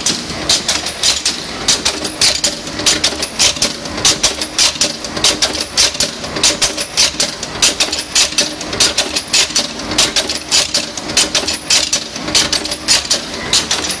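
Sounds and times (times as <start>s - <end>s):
regular metallic machine clicking: 0.0s - 14.0s
steady machine hum: 0.0s - 14.0s.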